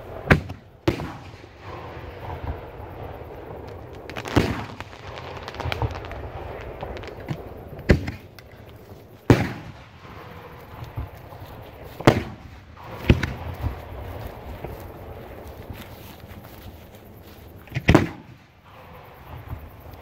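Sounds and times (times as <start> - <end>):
firework booms: 0.0 - 15.2, 17.7 - 19.9
firework pops and crackling: 0.2 - 20.0.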